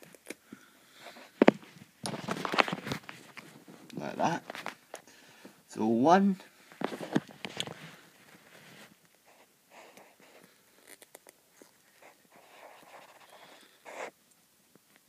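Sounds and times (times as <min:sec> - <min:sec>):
faint rustling: 0:00.0 - 0:05.6, 0:06.4 - 0:14.2.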